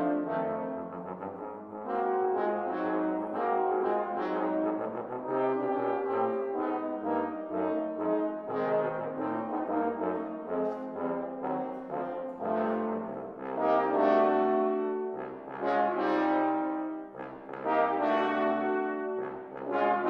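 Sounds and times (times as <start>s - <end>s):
brass ensemble playing chords: 0.0s - 20.0s.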